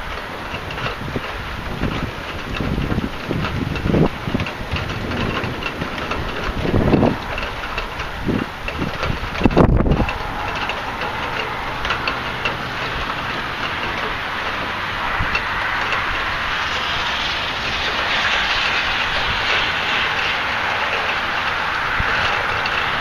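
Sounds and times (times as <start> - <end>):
heavy rain: 0.0 - 23.0
wind: 0.0 - 23.0.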